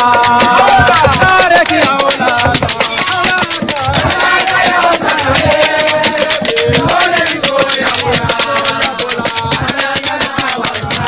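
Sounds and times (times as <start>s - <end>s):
shakers shaken in fast rhythm: 0.0s - 11.0s
steady drum beat: 0.0s - 11.0s
voices singing: 0.0s - 11.0s.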